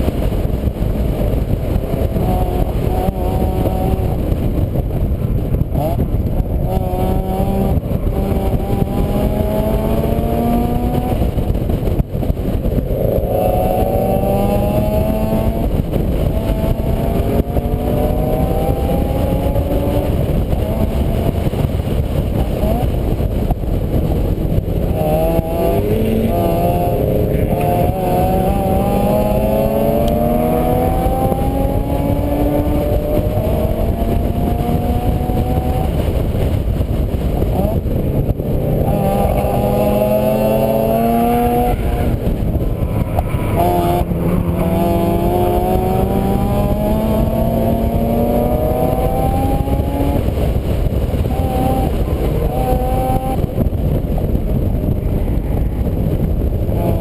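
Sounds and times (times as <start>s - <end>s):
vehicle engine revving: 0.0s - 4.6s, 5.6s - 57.0s
heavy low rumble: 0.0s - 57.0s.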